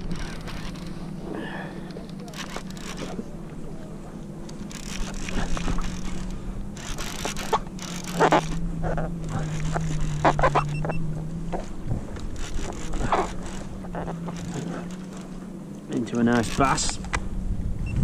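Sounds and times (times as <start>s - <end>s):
paddle strokes splashing: 0.0s - 15.5s
boat engine drone: 0.0s - 18.0s.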